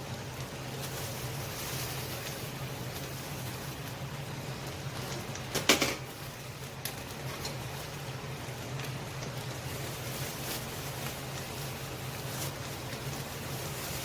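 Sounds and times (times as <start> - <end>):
meat sizzling in a pan: 0.0 - 14.0.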